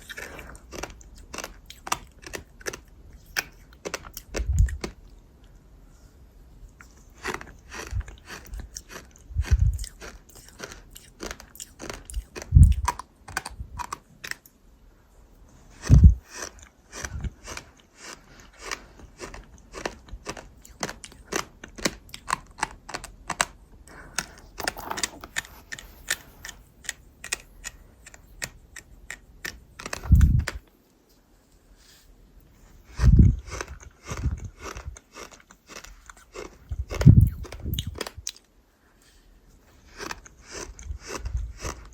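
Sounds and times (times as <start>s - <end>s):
crunching and cracking while chewing: 0.0s - 5.6s, 6.7s - 14.6s, 15.6s - 30.9s, 32.6s - 41.9s.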